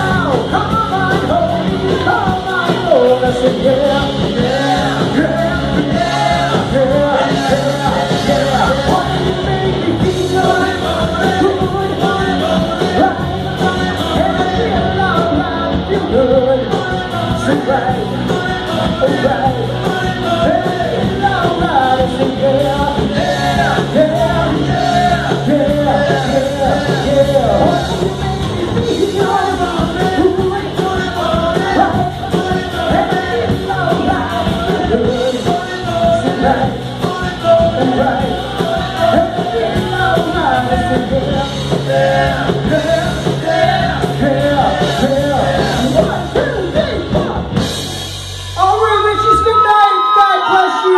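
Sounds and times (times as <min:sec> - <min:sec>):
drums: 0:00.0 - 0:50.9.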